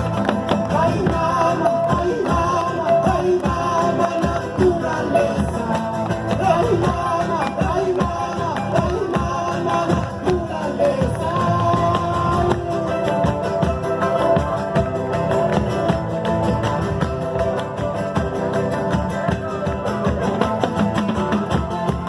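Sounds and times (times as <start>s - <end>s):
guitar: 0.0s - 22.0s
person singing folk song: 0.0s - 22.0s.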